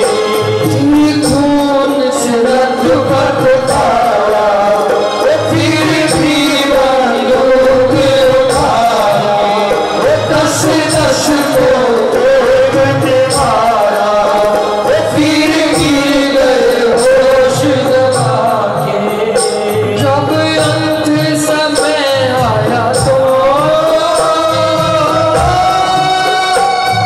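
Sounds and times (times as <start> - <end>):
hand percussion beat: 0.0 - 27.0
harmonium: 0.0 - 27.0
man singing into a microphone: 0.0 - 27.0.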